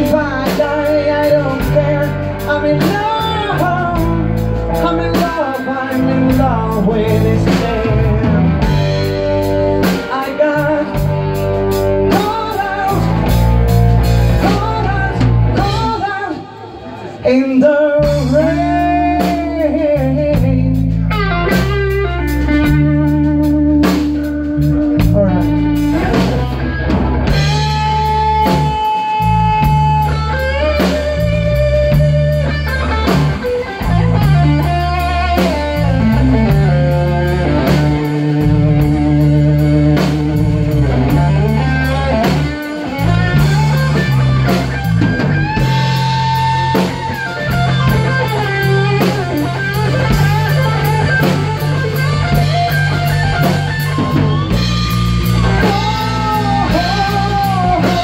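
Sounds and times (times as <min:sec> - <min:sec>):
lead guitar bending notes: 0:00.0 - 0:17.2, 0:17.9 - 0:58.0
blues-rock band playing: 0:00.0 - 0:58.0.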